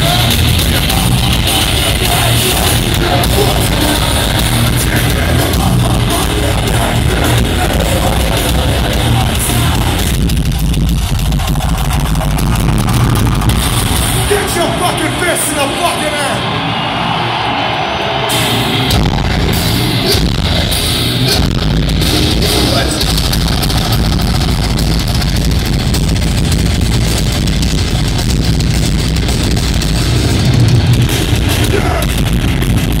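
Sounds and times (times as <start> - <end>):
live heavy metal band: 0.0 - 33.0.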